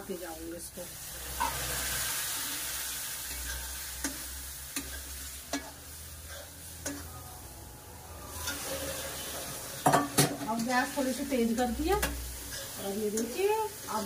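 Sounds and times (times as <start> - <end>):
flour sizzling in a pan: 0.0 - 14.0
metal spoon scraping a pan: 1.2 - 7.1, 8.2 - 14.0.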